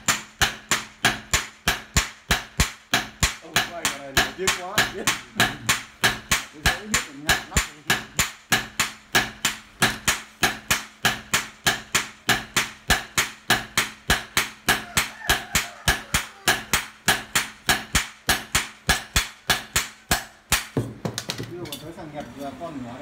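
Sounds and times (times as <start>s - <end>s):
hammers clanging on steel blade: 0.0s - 20.7s.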